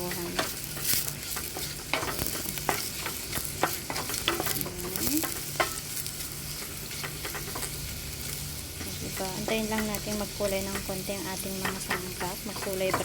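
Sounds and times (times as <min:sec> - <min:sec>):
utensil scraping against pan: 0:00.0 - 0:13.0
vegetables sizzling in hot oil: 0:00.0 - 0:13.0.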